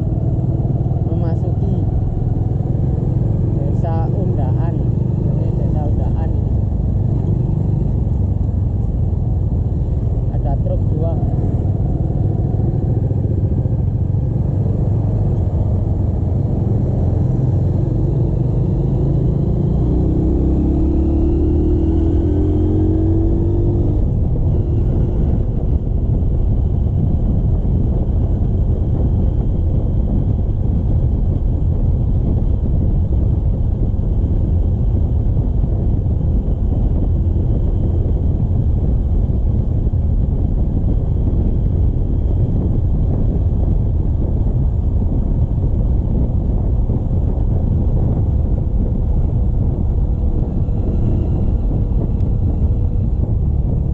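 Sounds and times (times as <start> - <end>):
motorcycle engine accelerating: 0.0 - 53.9
wind rumble on microphone: 0.0 - 53.9.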